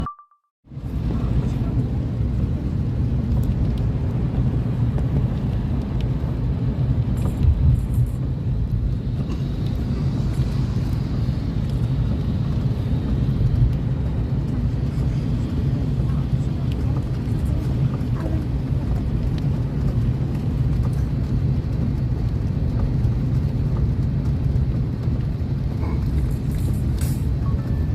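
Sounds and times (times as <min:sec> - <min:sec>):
car rumble from inside cabin: 0:00.7 - 0:27.9.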